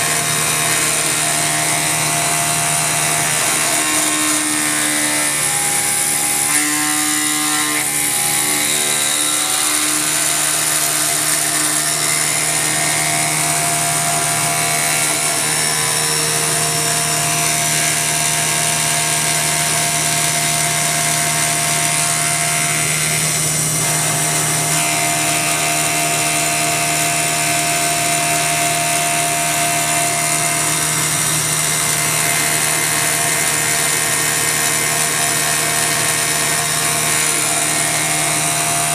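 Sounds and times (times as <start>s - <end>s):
milling machine cutting metal: 0.0s - 38.9s.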